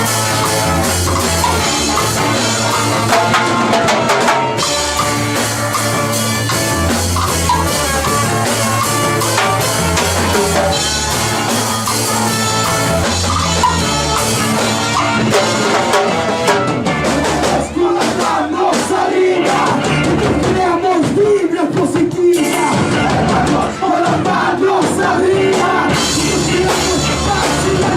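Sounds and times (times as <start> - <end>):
ska-punk band playing: 0.0 - 27.9
voices shouting and singing: 0.0 - 27.9.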